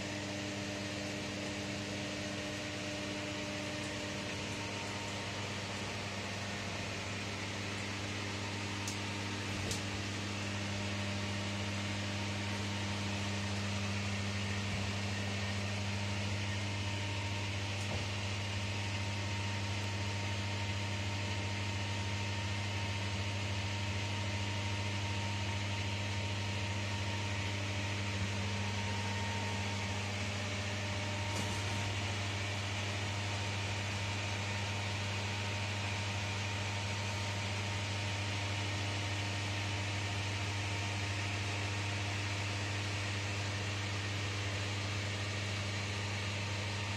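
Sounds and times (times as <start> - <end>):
fan hiss: 0.0 - 22.7, 24.5 - 46.9
air conditioner electrical hum: 0.0 - 46.9.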